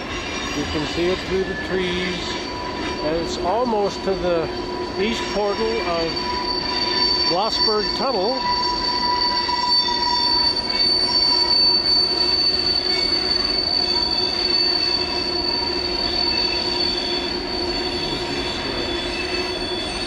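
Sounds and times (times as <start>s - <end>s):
rumble of rail cars: 0.0s - 20.0s
train wheels squealing on rail: 0.0s - 20.0s.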